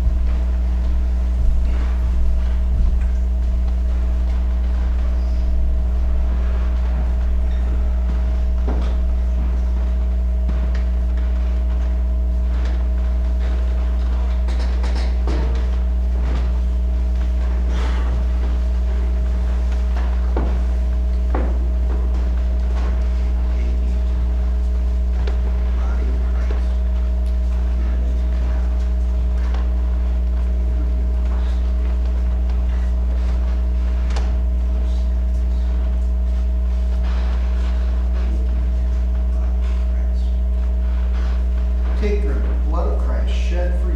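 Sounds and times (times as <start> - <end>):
electrical mains hum: 0.0 - 43.9.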